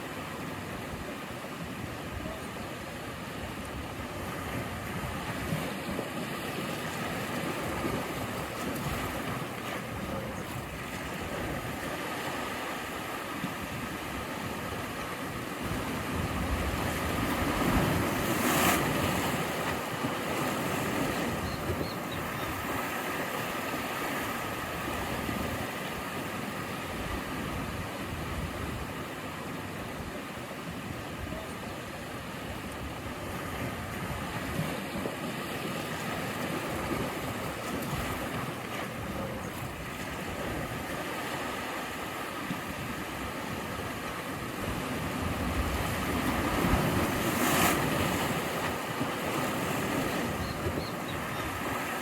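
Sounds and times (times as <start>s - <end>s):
sea waves breaking on shore: 0.0s - 52.0s.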